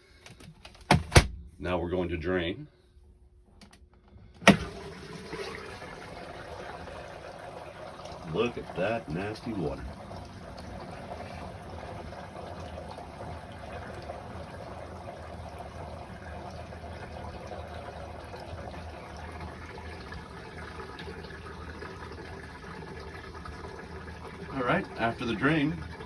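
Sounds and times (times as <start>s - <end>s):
water draining: 4.5s - 26.0s.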